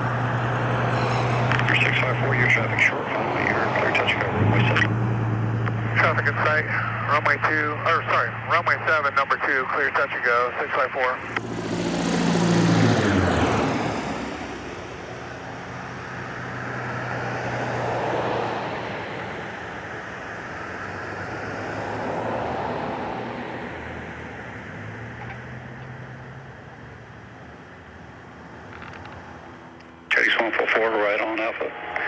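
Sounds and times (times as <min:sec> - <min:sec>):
airplane engine hum: 0:00.0 - 0:32.0
airplane passing by: 0:00.0 - 0:32.0.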